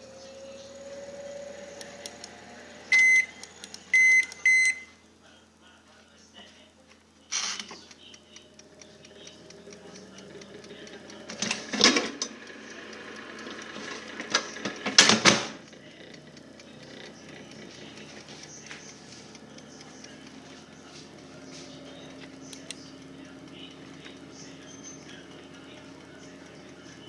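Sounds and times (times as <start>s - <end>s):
microwave oven humming: 0.0s - 27.0s.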